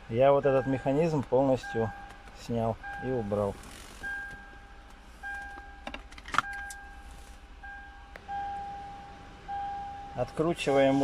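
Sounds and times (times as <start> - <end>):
car electronic warning tone: 0.1 - 11.0.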